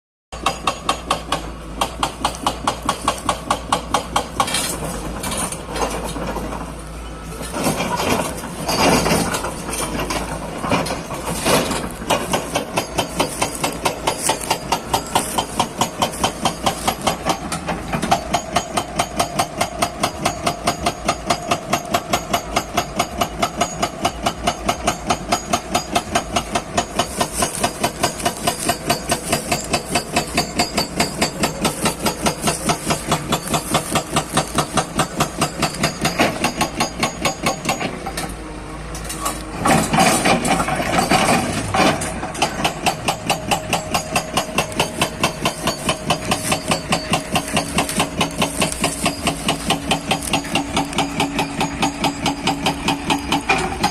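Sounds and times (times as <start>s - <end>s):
hydraulic breaker hammer pounding: 0.4s - 6.8s, 7.4s - 38.4s, 39.6s - 53.9s
diesel engine running: 0.4s - 53.9s.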